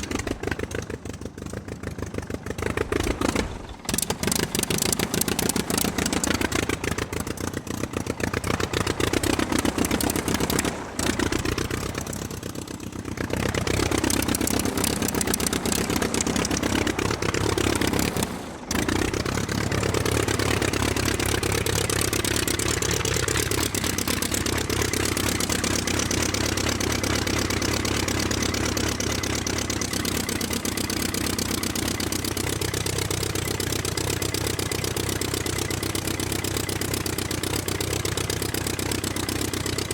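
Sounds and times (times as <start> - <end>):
aircraft piston engine running: 0.0 - 39.9.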